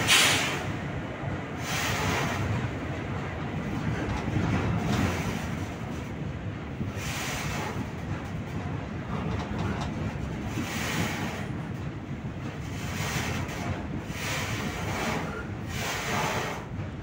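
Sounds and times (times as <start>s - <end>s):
diesel locomotives rumbling: 0.0s - 17.0s
wind buffeting microphone: 0.0s - 17.0s.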